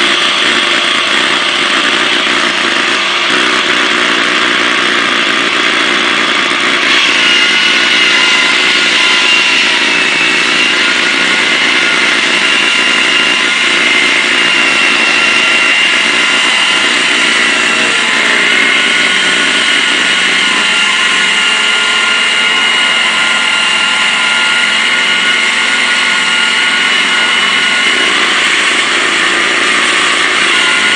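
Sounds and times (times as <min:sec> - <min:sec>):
concrete saw cutting concrete: 0:00.0 - 0:30.9.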